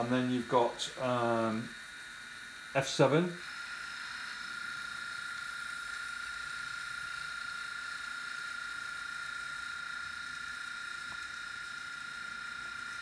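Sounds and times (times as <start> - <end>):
air compressor hiss from small speaker: 0.0 - 13.0.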